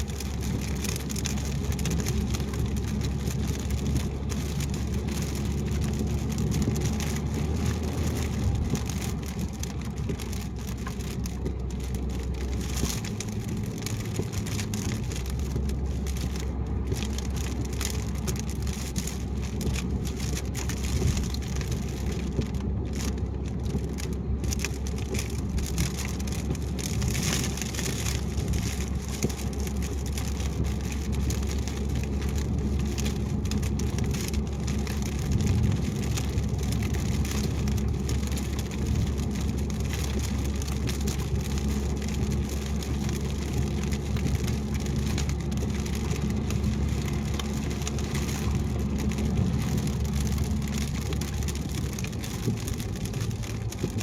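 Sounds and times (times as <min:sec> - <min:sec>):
rain on a car: 0:00.0 - 0:54.0
wet road noise: 0:00.0 - 0:54.0.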